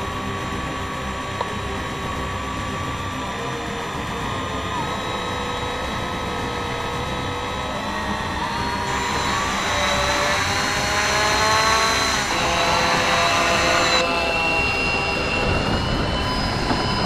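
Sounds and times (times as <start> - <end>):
model plane electric motor whine: 0.0 - 17.0.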